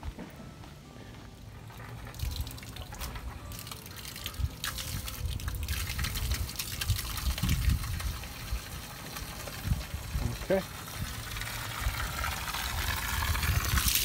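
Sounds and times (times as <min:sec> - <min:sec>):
water running from hose bib: 0:01.7 - 0:14.0.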